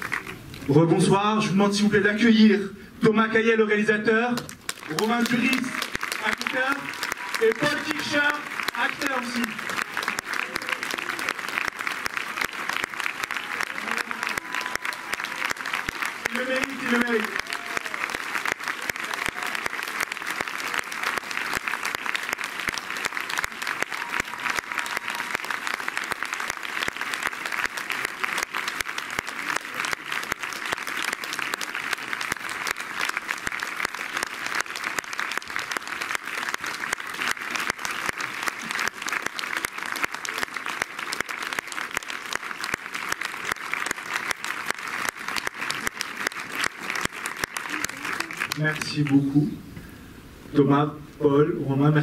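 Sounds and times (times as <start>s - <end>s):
audience applauding: 0.0s - 0.8s, 4.4s - 49.3s.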